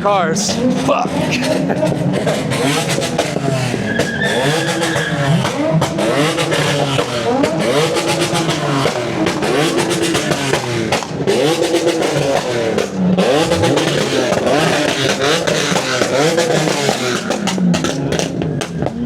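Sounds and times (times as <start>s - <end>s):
car engine revving in blips: 0.0s - 19.0s
sharp cracks: 1.9s - 19.0s.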